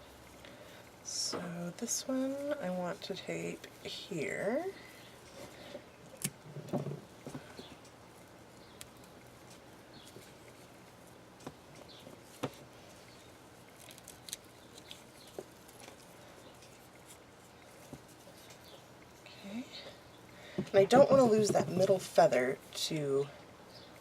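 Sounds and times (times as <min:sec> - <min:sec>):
soft tape rustling: 0:00.0 - 0:24.0.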